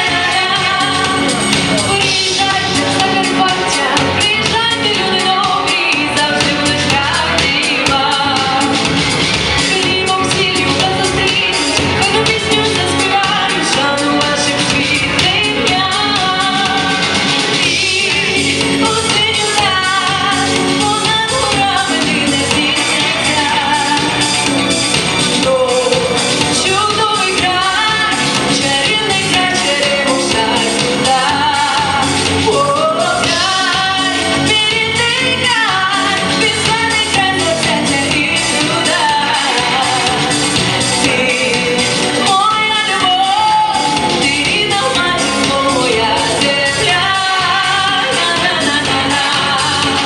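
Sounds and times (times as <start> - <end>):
backing track with steady beat: 0.0 - 50.0
instrumental accompaniment: 0.0 - 50.0
woman singing: 0.0 - 50.0.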